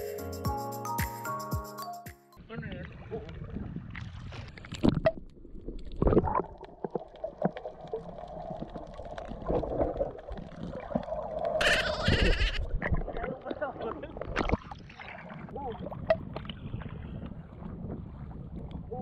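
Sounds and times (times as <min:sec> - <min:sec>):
muffled water sloshing and bubbling: 0:02.4 - 0:19.0.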